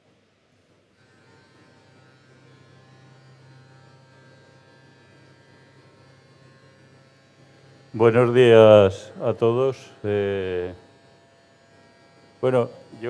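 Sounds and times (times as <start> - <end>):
electrical hum and buzz: 1.1 - 13.0.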